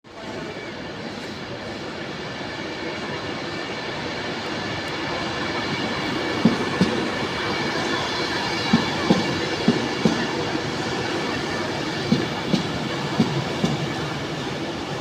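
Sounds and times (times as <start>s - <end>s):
train rumbling: 0.2s - 15.0s.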